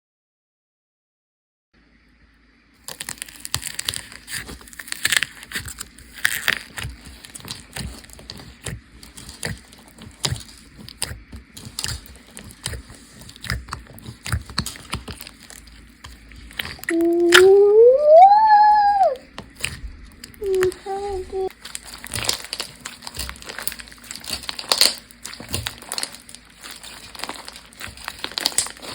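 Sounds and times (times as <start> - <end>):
bead slime crunching and popping: 2.8 - 17.6, 19.3 - 28.9.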